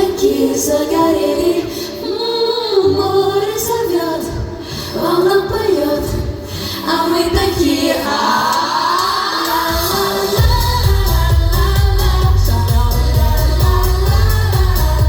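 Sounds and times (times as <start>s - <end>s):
backing track: 0.0s - 15.0s
women singing pop song: 0.0s - 15.0s.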